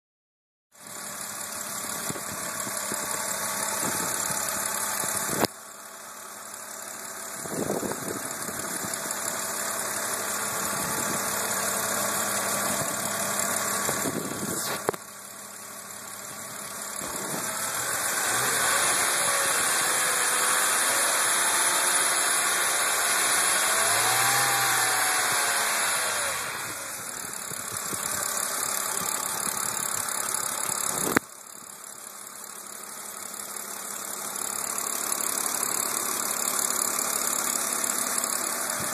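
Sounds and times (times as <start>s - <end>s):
car engine running: 0.8s - 38.9s.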